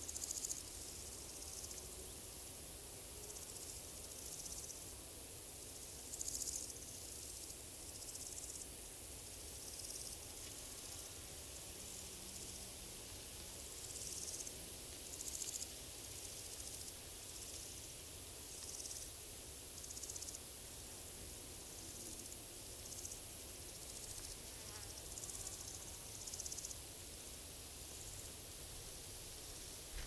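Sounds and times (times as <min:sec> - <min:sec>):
crickets chirping: 0:00.0 - 0:30.0
faint forest ambience hiss: 0:00.0 - 0:30.0.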